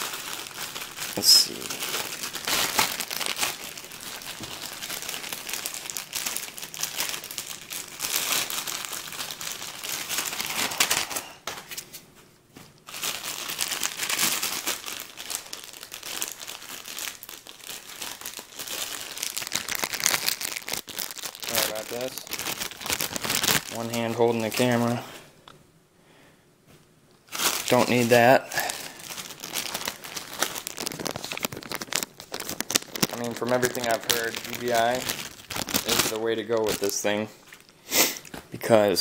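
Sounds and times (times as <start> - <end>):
plastic bags crinkling: 0.0 - 12.0, 12.8 - 25.0, 27.3 - 39.0.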